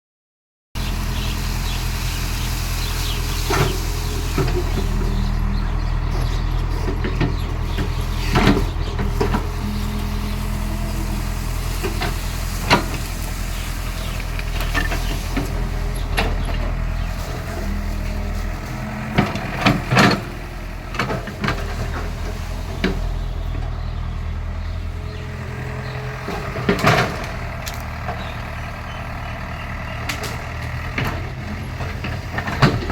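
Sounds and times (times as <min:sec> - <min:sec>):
diesel engine running: 0:00.8 - 0:32.9.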